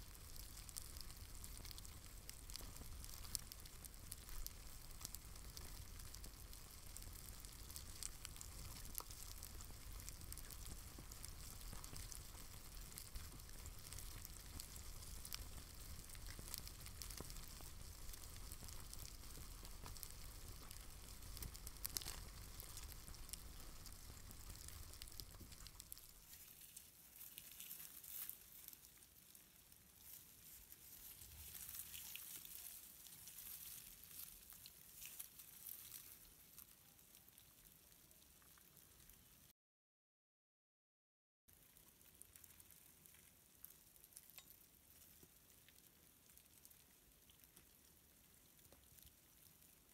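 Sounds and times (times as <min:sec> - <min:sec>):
cockroaches crawling over wood: 0:00.0 - 0:39.4, 0:41.5 - 0:49.9.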